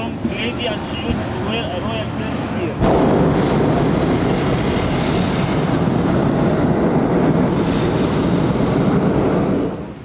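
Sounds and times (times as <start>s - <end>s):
propane burner rushing: 0.6s - 10.0s.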